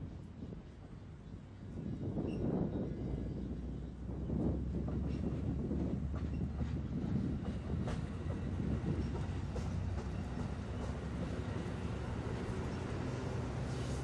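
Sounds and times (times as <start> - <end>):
diesel locomotive hum: 0.0 - 14.0
train wheels rumbling on rail: 0.0 - 14.0.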